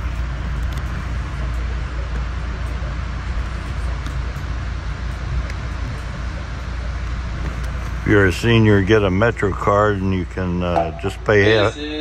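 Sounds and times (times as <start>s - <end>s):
train car rumbling on track: 0.0s - 12.0s.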